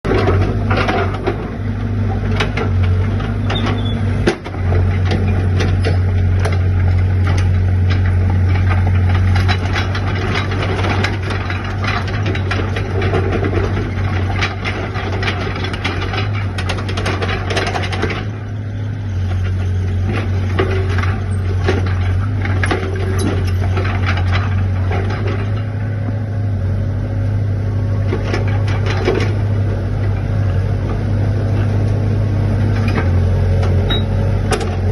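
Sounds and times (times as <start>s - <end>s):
excavator diesel engine running: 0.0s - 34.9s
metal clanks and rattles: 0.1s - 26.1s, 28.0s - 34.9s.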